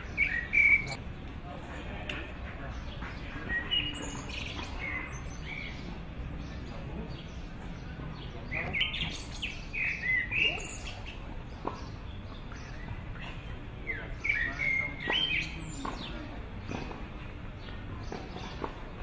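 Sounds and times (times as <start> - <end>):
faint outdoor background: 0.0 - 19.0
small songbirds chirping: 0.0 - 19.0.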